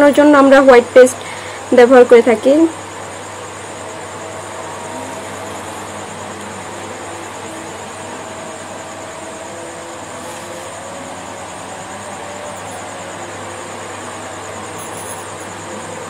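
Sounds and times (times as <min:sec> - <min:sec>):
low hum: 0:02.8 - 0:16.0.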